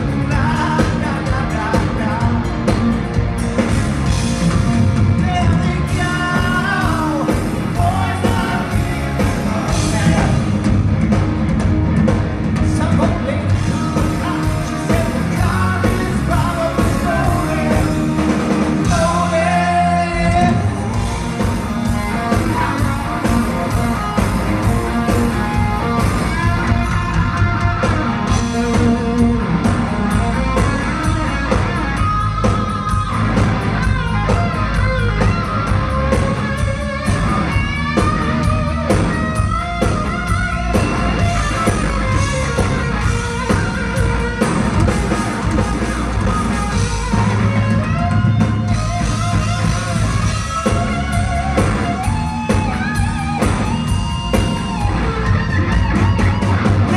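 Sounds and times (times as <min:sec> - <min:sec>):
electric guitar lead with bending notes: 0:00.0 - 0:56.9
live rock band playing: 0:00.0 - 0:56.9.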